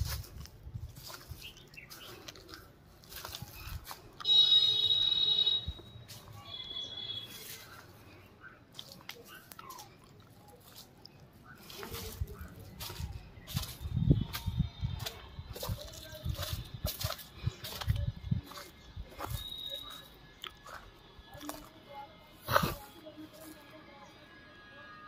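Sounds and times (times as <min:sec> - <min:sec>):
footsteps on dry leaves: 0:00.0 - 0:21.8, 0:22.4 - 0:23.7.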